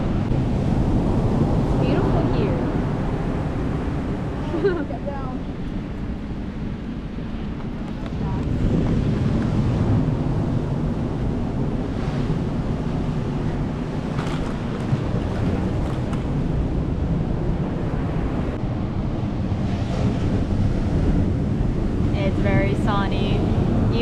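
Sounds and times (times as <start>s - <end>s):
ocean surf washing onto beach: 0.0s - 24.0s
wind rumbling on microphone: 0.0s - 24.0s.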